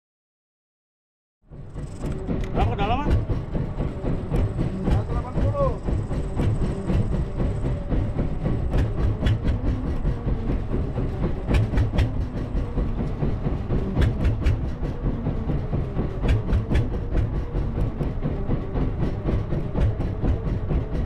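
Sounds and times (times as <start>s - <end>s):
sharp clicks and knocks: 1.7s - 21.0s.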